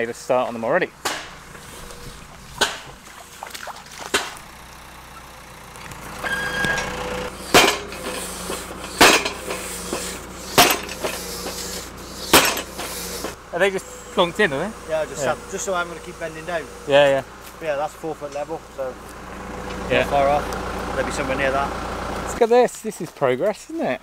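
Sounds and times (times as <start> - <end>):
tractor engine humming: 0.0 - 22.5.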